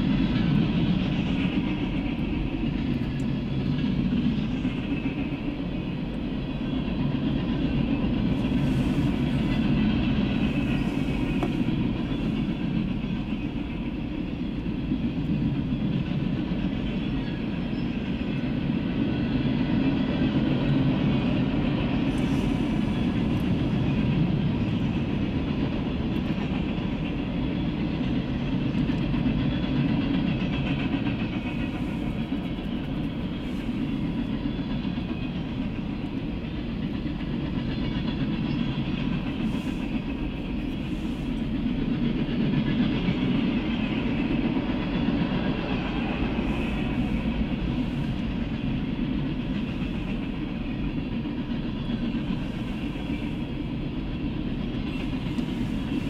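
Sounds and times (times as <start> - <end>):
freight train wheels rumbling: 0.0 - 56.0
rail hiss: 0.0 - 56.0.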